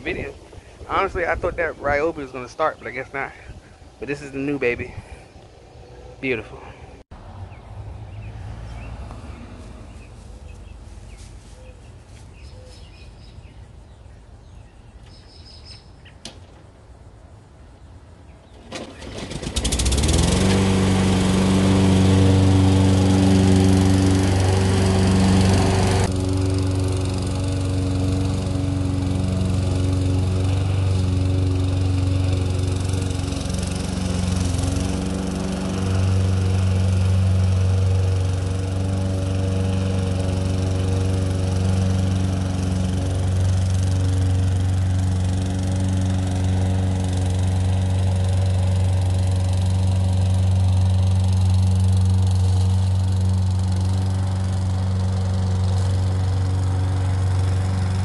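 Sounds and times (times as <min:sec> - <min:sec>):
lawn mower engine running: 0:00.0 - 0:07.0, 0:08.0 - 0:15.6, 0:18.0 - 0:58.0.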